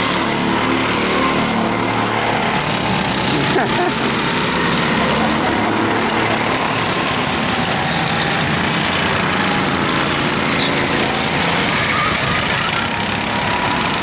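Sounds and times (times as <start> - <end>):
go-kart engines droning: 0.0 - 14.0.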